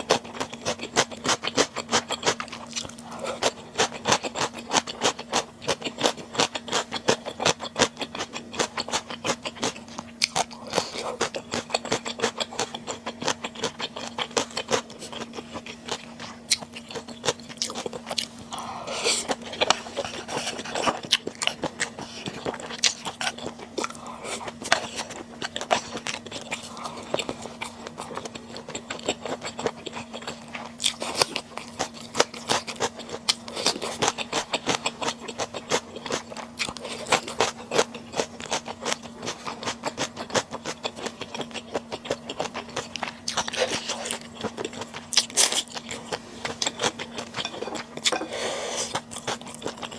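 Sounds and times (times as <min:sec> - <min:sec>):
faint steady hum: 0:00.0 - 0:49.9
wet chewing mouth sounds: 0:00.0 - 0:49.9.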